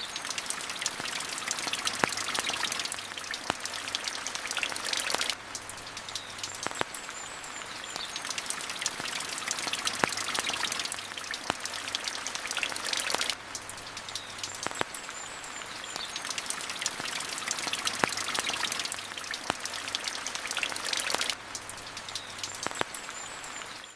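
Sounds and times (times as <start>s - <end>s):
rain pattering: 0.0s - 23.9s
sharp ticks and pops: 0.2s - 23.8s.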